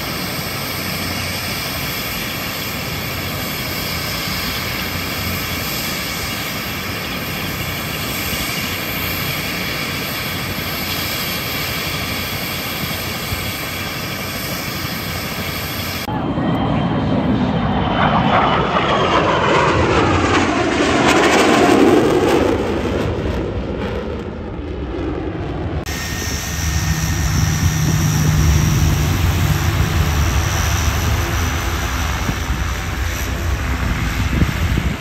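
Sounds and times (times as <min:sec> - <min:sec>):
helicopter engine whine: 0:00.0 - 0:35.0
rotor and engine rush: 0:00.0 - 0:35.0.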